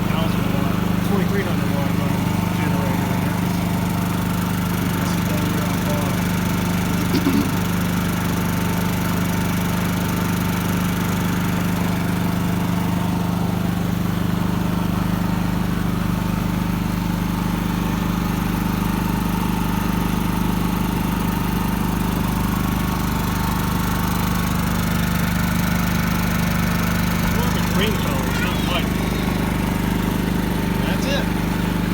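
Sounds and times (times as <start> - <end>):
generator engine humming: 0.0 - 31.9.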